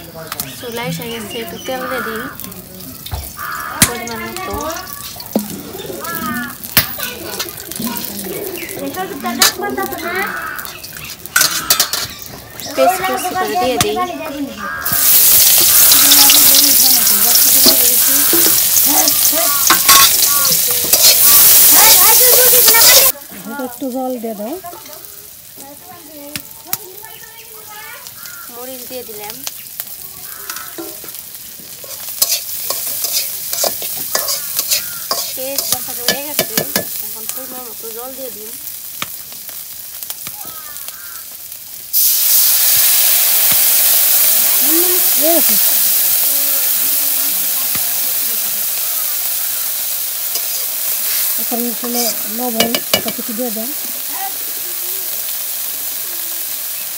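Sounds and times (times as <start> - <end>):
onion sizzling in hot oil: 0.0 - 56.9
vegetables frying in a wok: 0.0 - 56.9.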